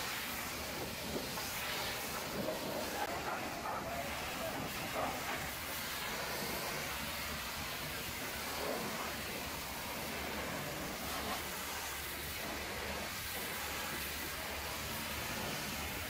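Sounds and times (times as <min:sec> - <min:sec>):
pressure washer spraying water: 0:00.0 - 0:16.0.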